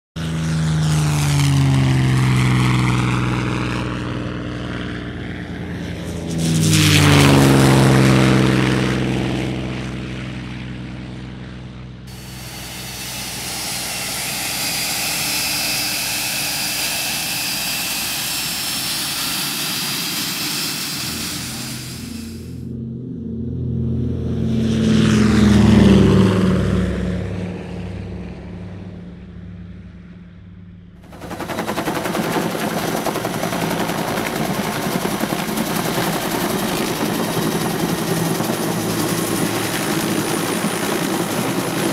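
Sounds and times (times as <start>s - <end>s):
jet engine whine: 0.2s - 29.4s, 31.0s - 41.9s
propeller aircraft passing: 0.2s - 41.9s.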